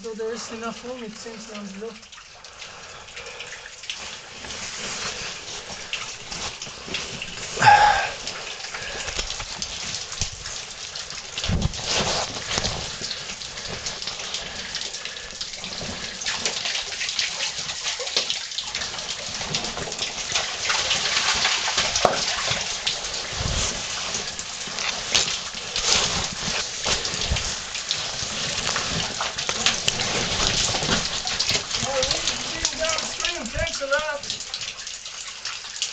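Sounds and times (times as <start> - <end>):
water running and dripping: 0.0 - 35.9.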